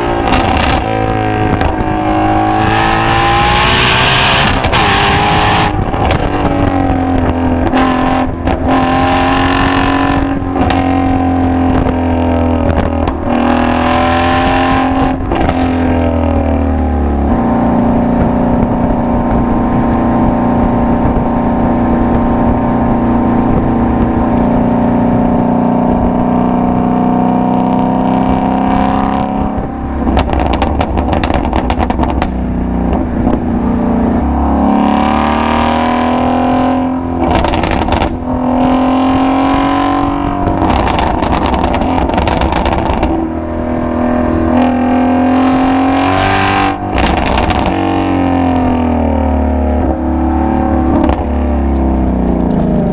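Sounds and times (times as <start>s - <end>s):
car exhaust revving: 0.0s - 52.9s.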